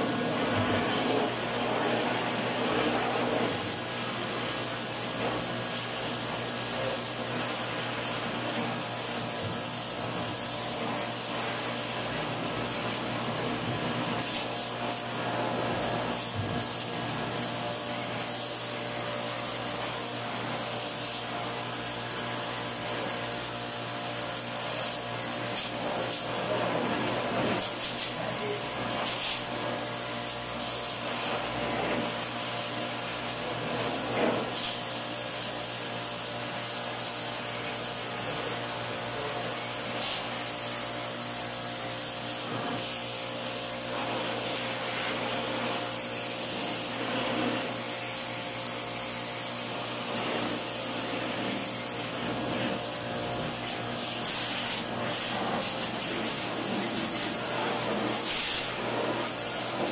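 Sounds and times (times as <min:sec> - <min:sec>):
pressure washer spraying metal: 0:00.0 - 0:59.9.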